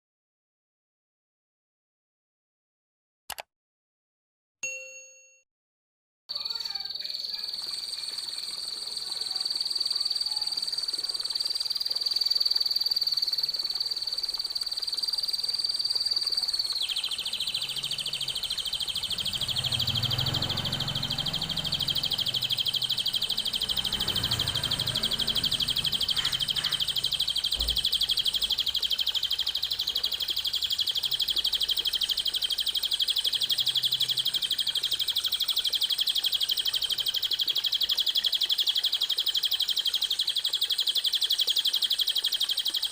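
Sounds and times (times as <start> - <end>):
songbird rapid high trill: 6.4 - 42.9.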